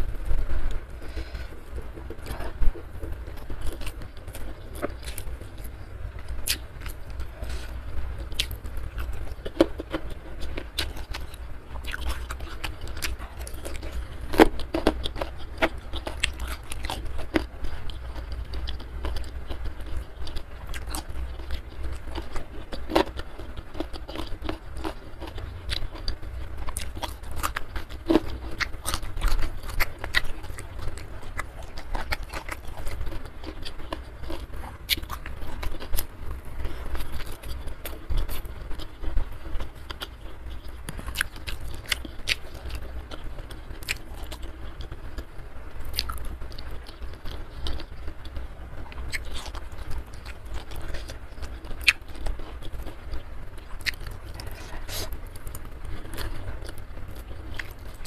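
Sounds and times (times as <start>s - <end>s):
chewing and biting food: 0.0s - 58.0s
steady low hum: 0.0s - 58.0s.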